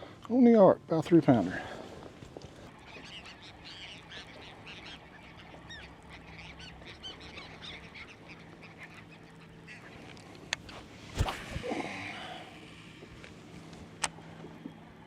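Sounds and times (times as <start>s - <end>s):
gulls calling: 2.6s - 15.0s.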